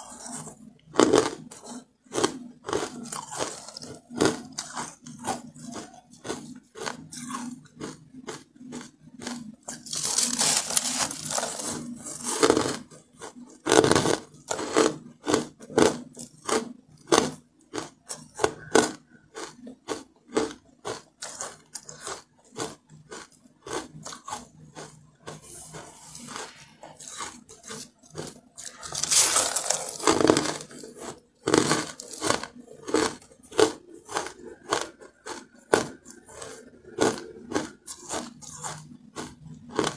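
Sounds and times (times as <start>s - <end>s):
crunching ice while chewing: 0.0s - 39.9s.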